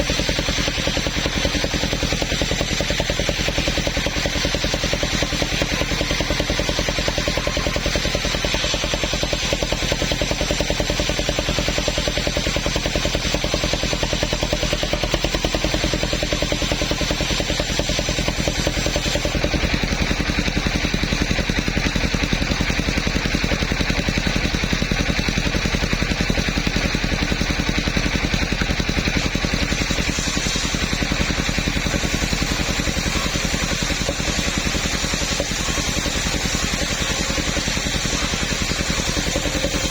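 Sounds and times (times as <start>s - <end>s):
sawmill engine chugging: 0.0s - 39.9s.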